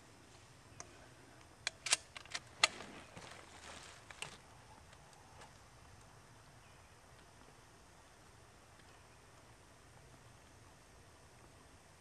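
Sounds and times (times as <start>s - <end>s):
faint rustle: 0.0s - 11.7s.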